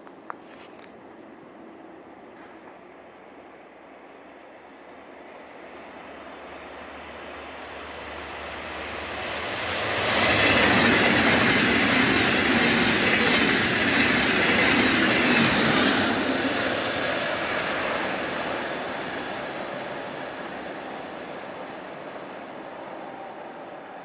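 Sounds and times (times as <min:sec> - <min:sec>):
train passing at speed: 0:00.5 - 0:24.0.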